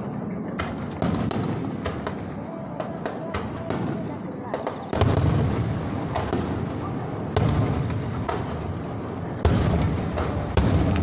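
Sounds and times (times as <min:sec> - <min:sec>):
firework crackles: 0:00.0 - 0:11.0.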